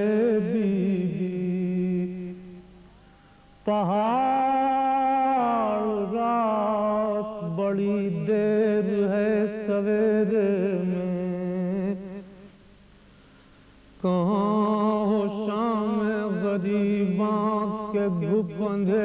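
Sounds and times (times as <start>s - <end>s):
man chanting: 0.0s - 2.7s, 3.6s - 12.5s, 14.0s - 19.0s.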